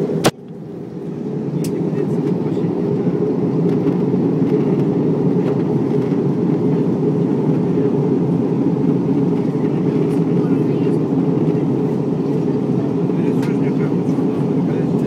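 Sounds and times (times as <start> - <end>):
airliner cabin noise: 0.0 - 15.0.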